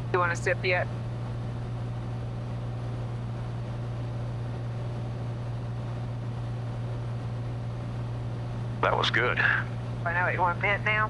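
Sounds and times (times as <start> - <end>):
plane engine drone in cabin: 0.0 - 11.0.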